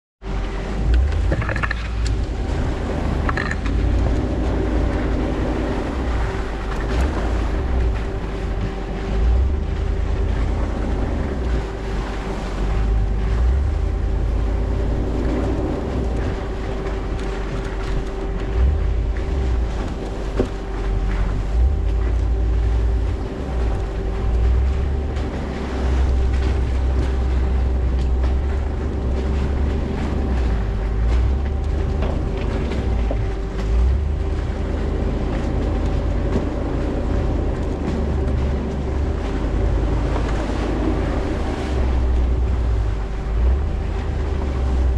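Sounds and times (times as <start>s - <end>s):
vehicle engine and tyre rumble: 0.2s - 44.9s
wind buffeting microphone: 0.2s - 44.9s.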